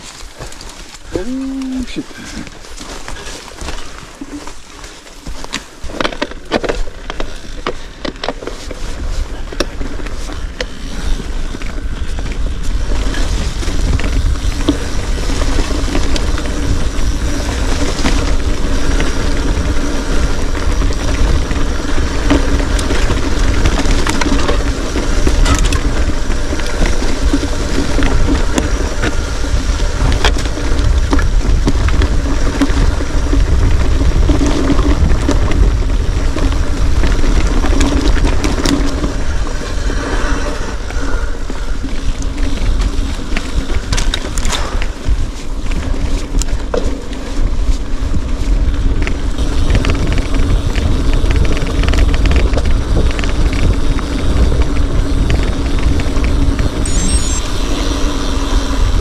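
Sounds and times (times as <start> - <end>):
bicycle tyres on trail: 0.0 - 59.0
wind rushing over microphone: 0.0 - 59.0.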